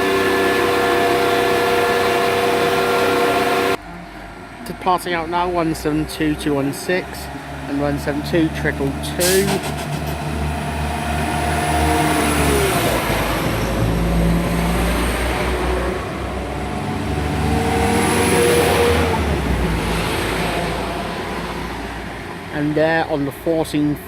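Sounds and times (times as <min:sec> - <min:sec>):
diesel trains pulling away: 0:00.0 - 0:24.0.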